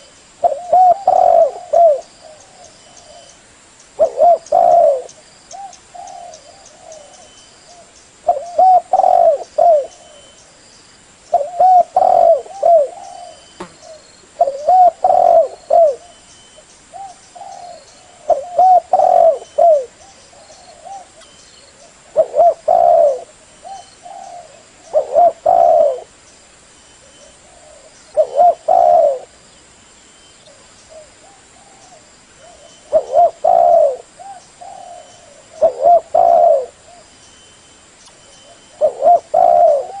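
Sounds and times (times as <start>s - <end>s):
dove cooing: 0.0s - 3.3s, 4.0s - 10.3s, 11.3s - 16.2s, 16.9s - 26.1s, 27.1s - 29.4s, 30.5s - 37.1s, 38.4s - 40.0s.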